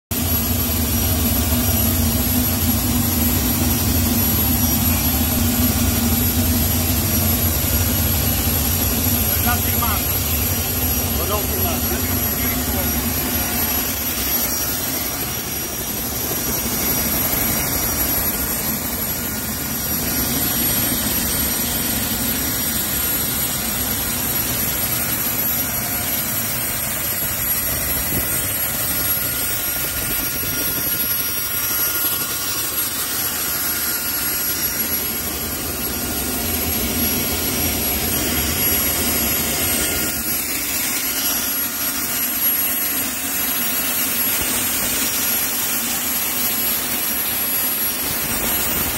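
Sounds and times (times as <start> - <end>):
gas turbine whining: 0.1 - 48.9.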